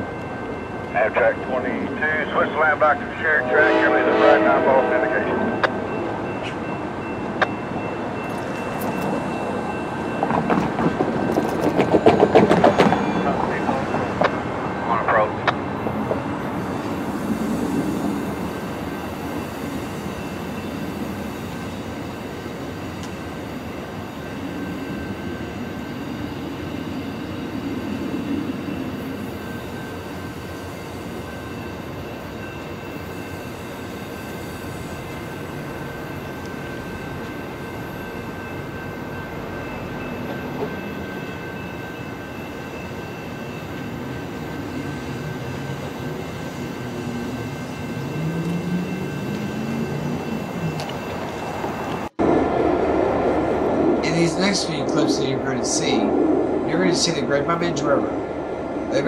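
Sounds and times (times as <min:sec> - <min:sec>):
train rolling on rails: 0:00.0 - 0:59.0.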